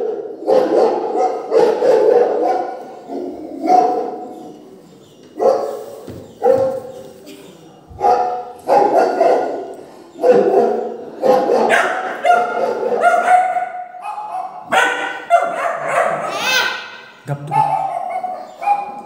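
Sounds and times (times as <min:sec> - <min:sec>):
dog barking: 0:00.0 - 0:04.3, 0:05.4 - 0:05.8, 0:06.4 - 0:06.9, 0:08.0 - 0:16.9, 0:17.5 - 0:19.0.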